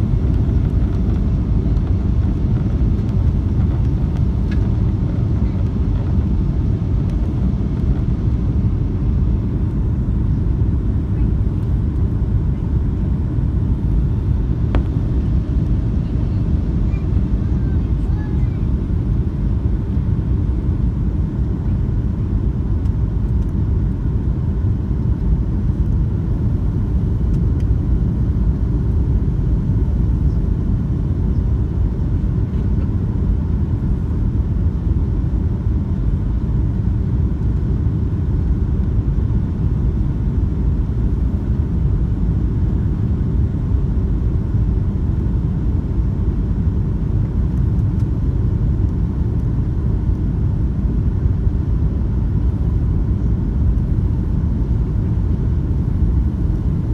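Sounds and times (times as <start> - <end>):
jet airliner cabin rumble: 0.0 - 56.9.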